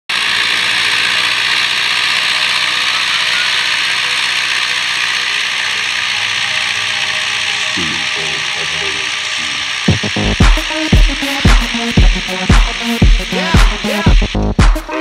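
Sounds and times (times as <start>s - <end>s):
tractor engine running: 0.1s - 14.7s
metallic rattle and hiss: 0.1s - 15.0s.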